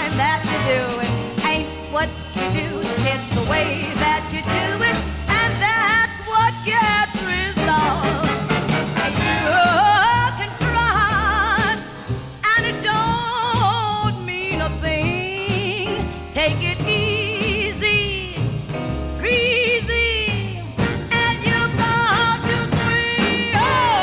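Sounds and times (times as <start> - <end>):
swing band song with singer: 0.0 - 24.0.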